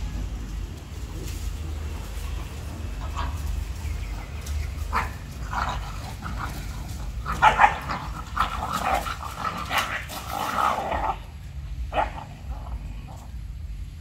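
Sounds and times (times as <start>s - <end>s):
dogs barking and yipping: 2.0s - 13.3s.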